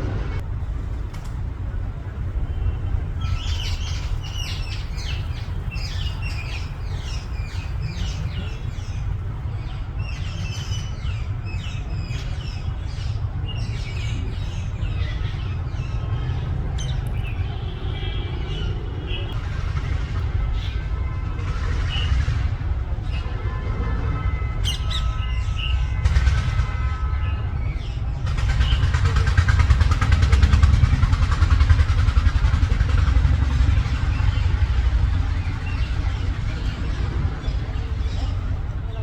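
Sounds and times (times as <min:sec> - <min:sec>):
steady low rumble: 0:00.0 - 0:39.0
birds chirping: 0:02.2 - 0:39.0.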